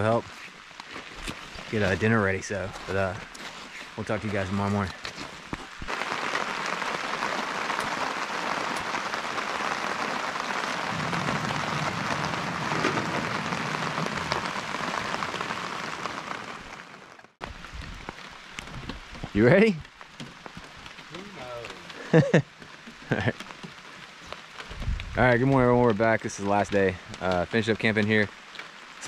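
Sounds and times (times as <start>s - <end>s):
rain on a tarp: 0.0s - 29.0s.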